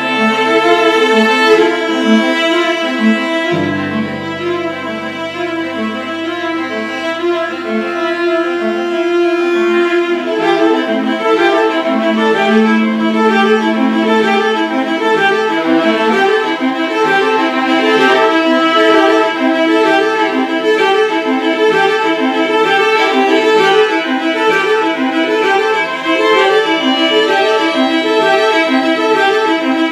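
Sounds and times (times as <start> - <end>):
cello: 0.0 - 29.9
violin: 0.0 - 29.9.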